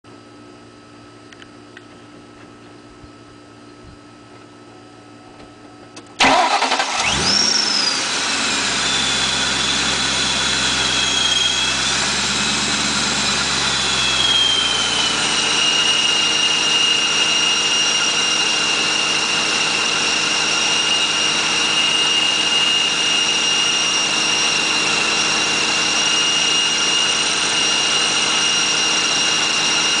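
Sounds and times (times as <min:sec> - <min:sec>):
supercharger whine: 0:00.1 - 0:30.0
car engine starting and idling: 0:05.8 - 0:30.0.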